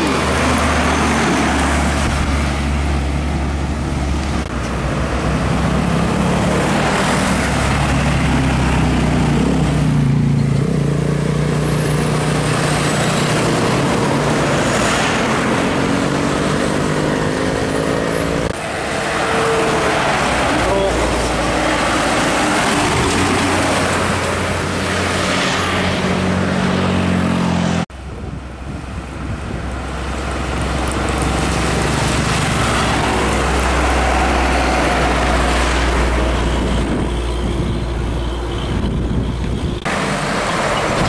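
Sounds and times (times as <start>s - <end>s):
diesel truck engine drone: 0.0s - 41.0s
tyre and road noise: 0.0s - 41.0s.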